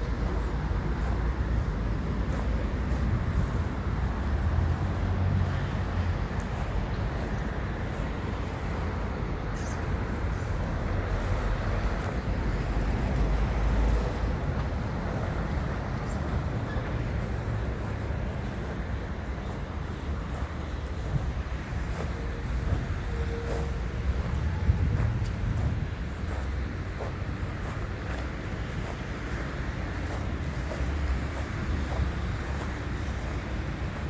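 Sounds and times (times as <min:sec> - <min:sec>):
strong low outdoor rumble: 0:00.0 - 0:34.0.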